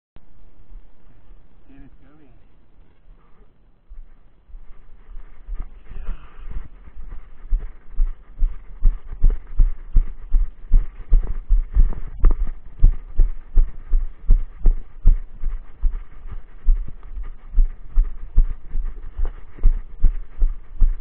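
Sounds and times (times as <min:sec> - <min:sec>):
footsteps on dirt trail: 0:03.8 - 0:21.0.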